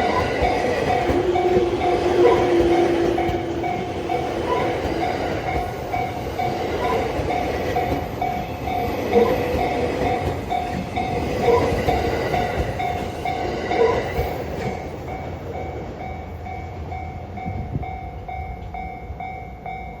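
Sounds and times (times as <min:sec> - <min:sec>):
train wheel clacks: 0:00.0 - 0:16.2
electric train rumble: 0:00.0 - 0:20.0
level-crossing warning bell ringing: 0:00.0 - 0:20.0.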